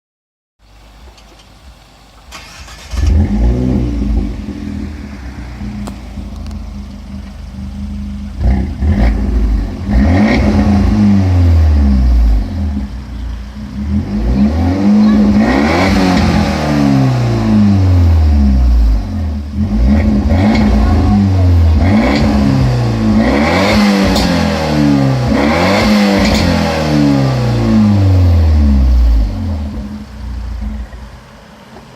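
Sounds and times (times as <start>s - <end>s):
car engine starting and idling: 0.6s - 31.9s
car engine revving: 2.3s - 31.8s.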